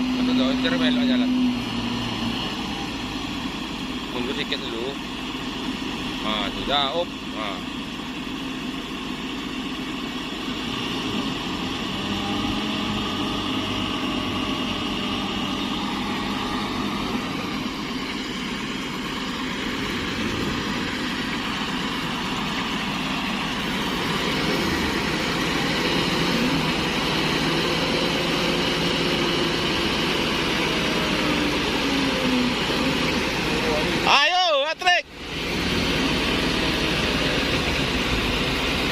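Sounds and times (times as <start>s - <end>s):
diesel truck engine revving: 0.0s - 38.9s.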